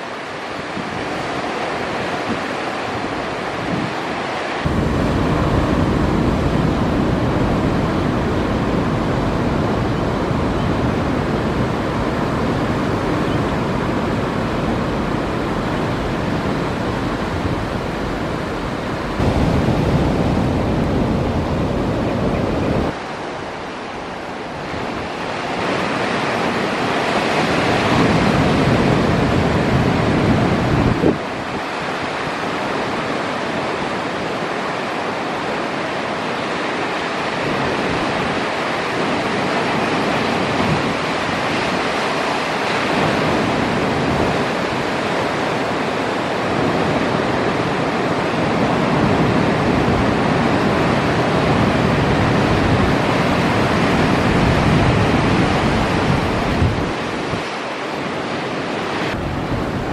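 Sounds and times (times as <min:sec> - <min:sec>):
ocean surf breaking: 0:00.0 - 0:59.9
wind buffeting microphone: 0:00.1 - 0:35.2, 0:35.9 - 0:59.9.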